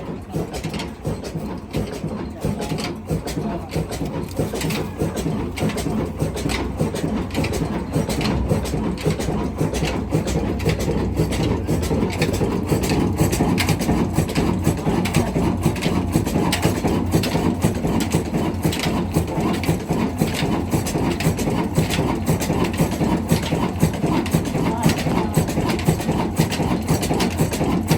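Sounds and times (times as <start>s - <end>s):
diesel engine knocking: 0.0s - 27.9s.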